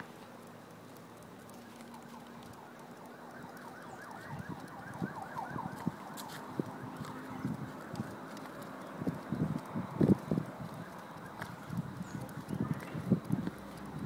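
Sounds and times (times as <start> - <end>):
footsteps on paved path: 0.0 - 14.0.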